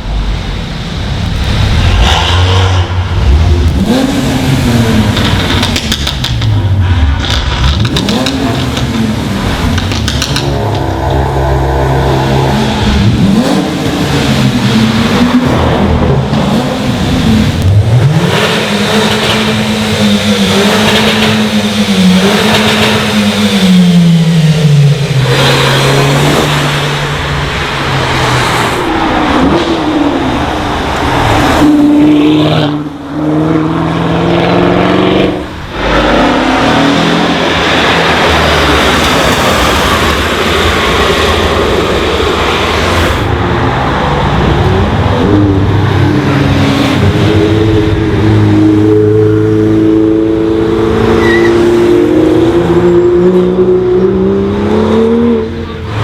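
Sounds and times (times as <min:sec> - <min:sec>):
car engines revving loudly: 0:00.0 - 0:56.0.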